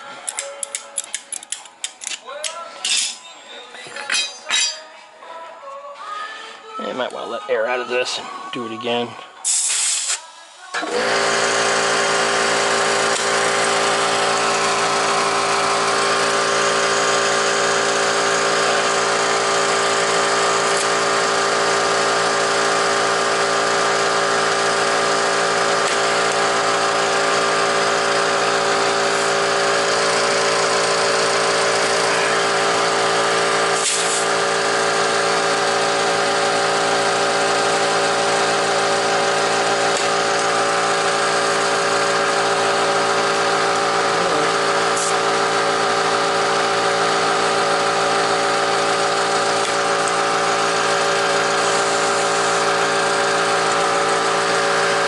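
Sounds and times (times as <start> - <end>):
air compressor running: 9.4 - 55.0.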